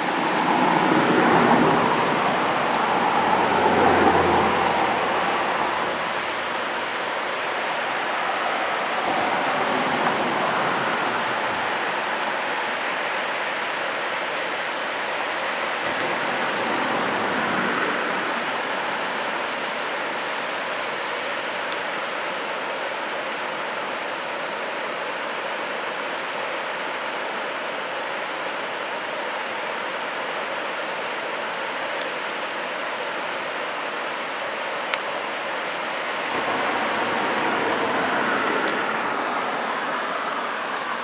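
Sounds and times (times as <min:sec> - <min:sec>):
river water rushing: 0:00.0 - 0:41.0.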